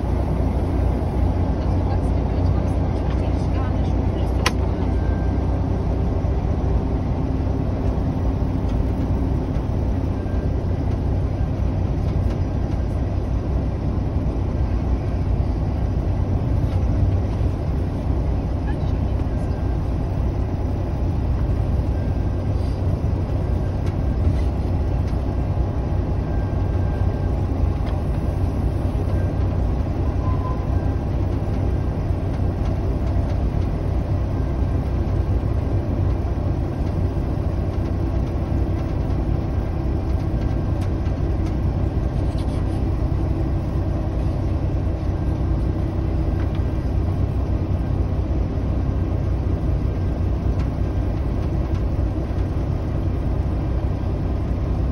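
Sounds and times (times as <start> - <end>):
diesel locomotive engine running: 0.0 - 54.9.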